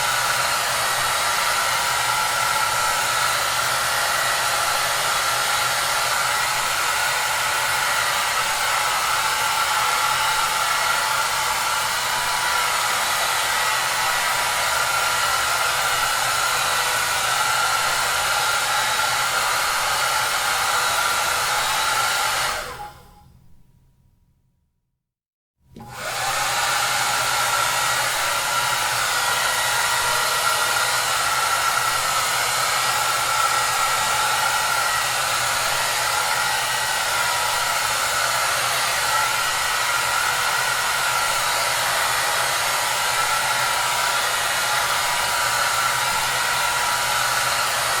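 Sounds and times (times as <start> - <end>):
hair dryer blowing: 0.0 - 23.1, 25.7 - 48.0.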